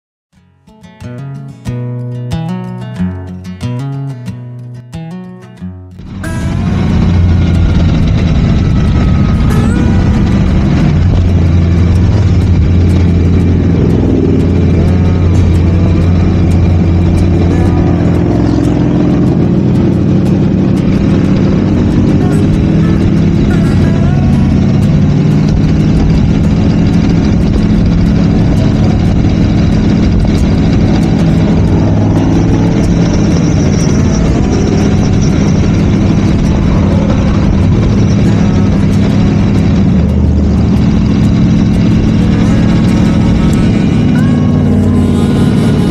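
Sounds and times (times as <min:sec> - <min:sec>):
motorcycle engine running steadily: 0:06.0 - 0:45.9.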